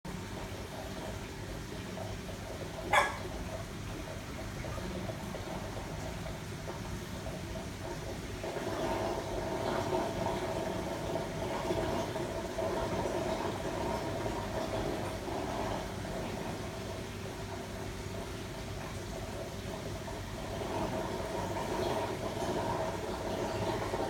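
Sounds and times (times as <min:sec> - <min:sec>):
aquarium equipment hum: 0:00.1 - 0:24.0.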